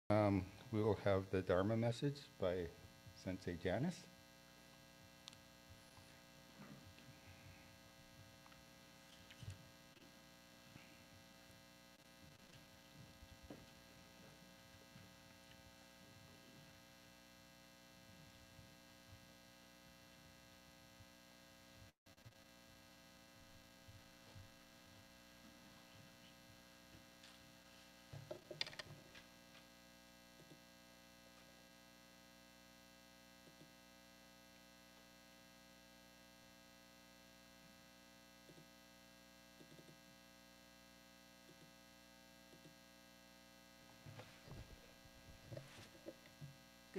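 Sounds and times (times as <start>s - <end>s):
electrical mains hum: 0.1s - 46.9s.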